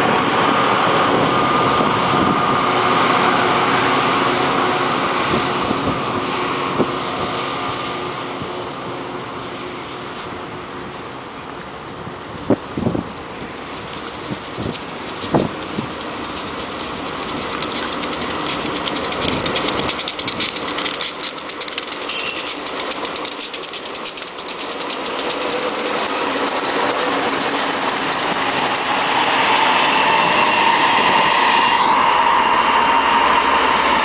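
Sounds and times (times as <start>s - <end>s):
diesel locomotive engines: 0.0s - 34.0s
wheels clattering on rails: 0.0s - 34.0s.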